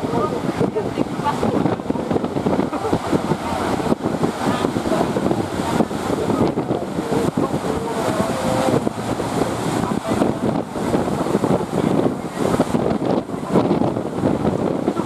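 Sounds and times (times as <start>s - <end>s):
sea surf: 0.0s - 15.0s
wind buffeting the microphone: 0.0s - 15.0s.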